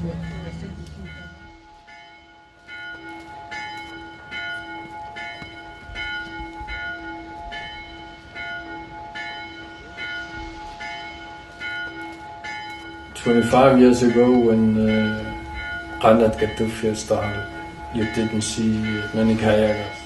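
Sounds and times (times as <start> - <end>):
bell ringing: 0.0 - 20.0.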